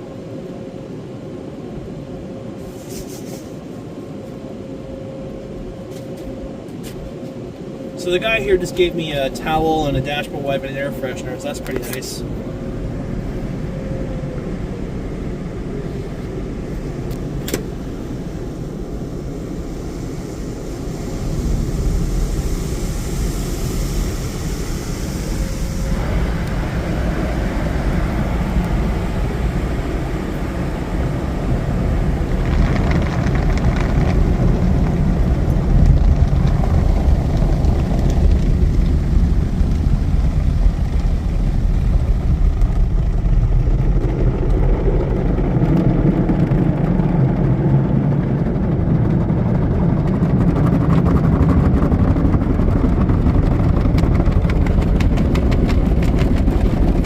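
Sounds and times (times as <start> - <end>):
car wash machinery rumbling: 0.0 - 57.0.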